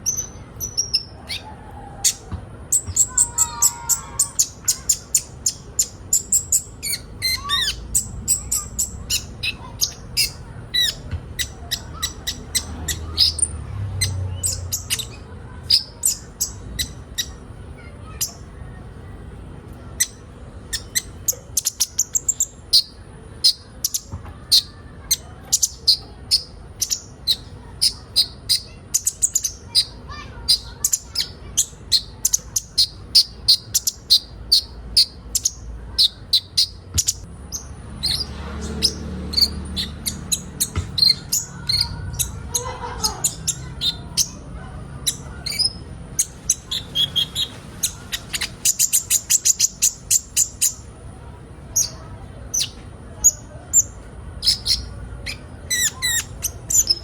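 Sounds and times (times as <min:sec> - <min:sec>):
sunbird high chirps: 0:00.0 - 0:18.5, 0:19.9 - 0:44.4, 0:45.0 - 0:50.9, 0:51.7 - 0:57.0.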